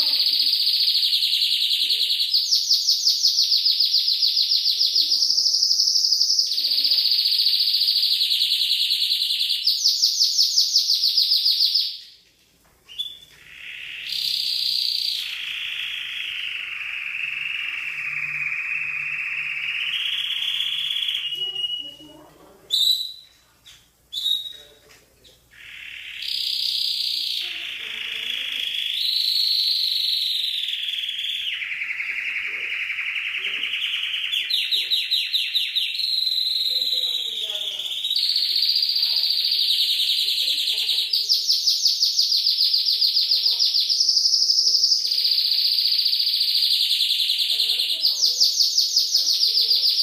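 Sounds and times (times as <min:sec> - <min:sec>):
canary singing trills: 0:00.0 - 0:12.2, 0:12.9 - 0:50.0.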